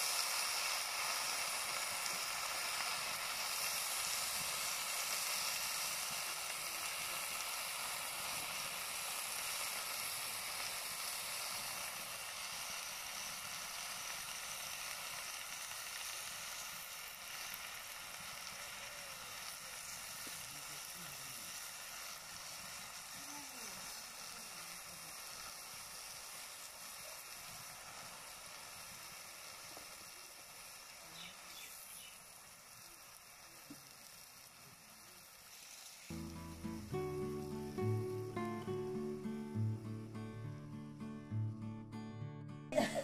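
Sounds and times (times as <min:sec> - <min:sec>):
food sizzling in hot oil: 0:00.0 - 0:41.4, 0:42.7 - 0:43.0.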